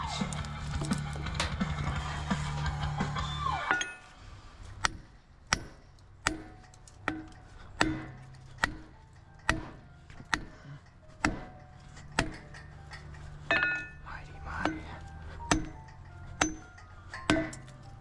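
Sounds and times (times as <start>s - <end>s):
hammer striking metal: 3.4s - 18.0s.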